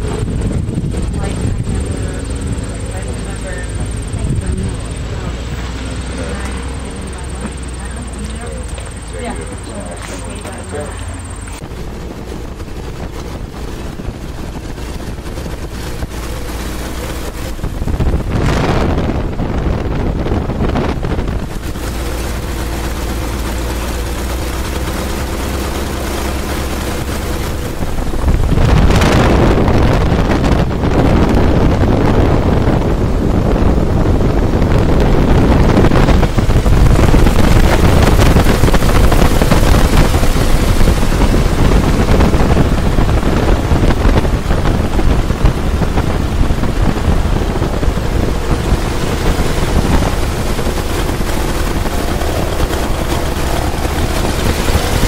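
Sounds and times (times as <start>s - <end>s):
biplane engine and propeller: 0.0s - 55.0s
wind buffeting microphone: 0.0s - 55.0s.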